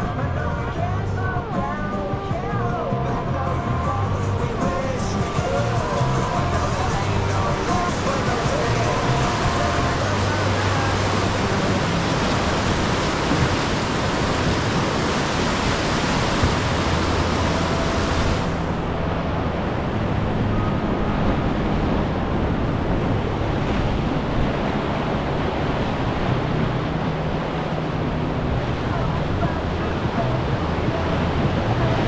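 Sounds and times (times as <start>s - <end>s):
whitewater rapids rushing: 0.0s - 32.0s.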